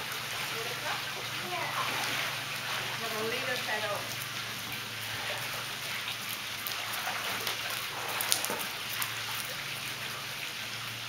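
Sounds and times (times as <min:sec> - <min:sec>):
pool water splashing and trickling: 0:00.0 - 0:11.0.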